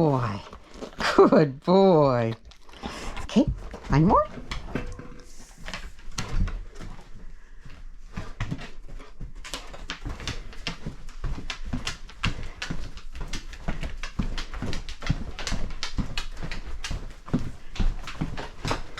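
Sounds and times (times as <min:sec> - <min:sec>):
dog sniffing and panting: 0:02.6 - 0:18.9.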